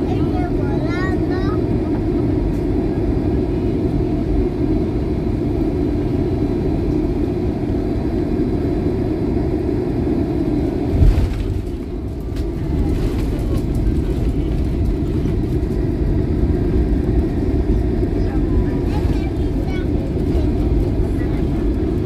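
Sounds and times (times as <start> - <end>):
airliner engine rumble: 0.0 - 22.0.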